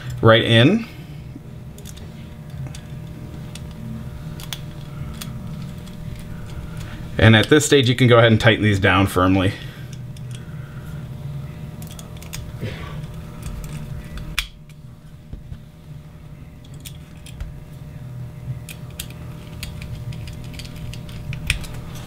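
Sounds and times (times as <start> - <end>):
low steady background hum: 0.0 - 22.0.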